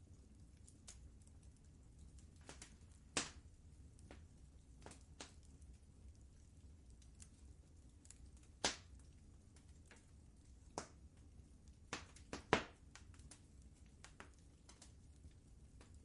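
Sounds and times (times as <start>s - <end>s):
fire low rumble: 0.0s - 16.0s
wood fire popping and snapping: 0.0s - 16.0s.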